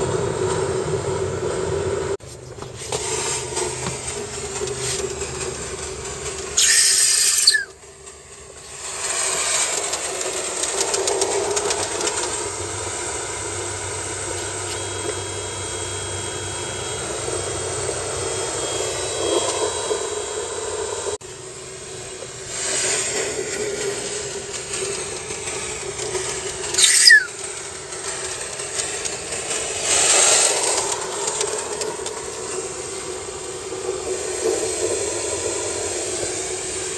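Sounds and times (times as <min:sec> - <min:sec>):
model steam locomotive running: 0:00.0 - 0:36.9
burst of steam hissing: 0:02.7 - 0:19.4, 0:20.0 - 0:36.9.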